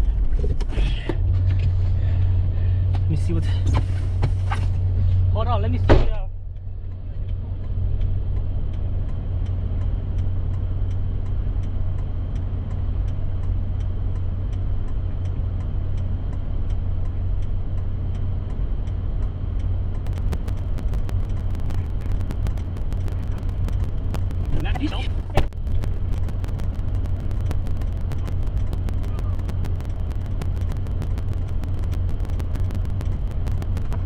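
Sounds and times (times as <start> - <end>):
faint regular ticking: 6.4 - 34.0.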